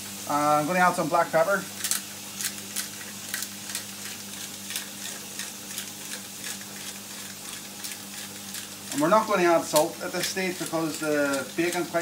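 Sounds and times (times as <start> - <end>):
meat sizzling in a frying pan: 0.0 - 12.0
spatula stirring in pan: 2.3 - 12.0.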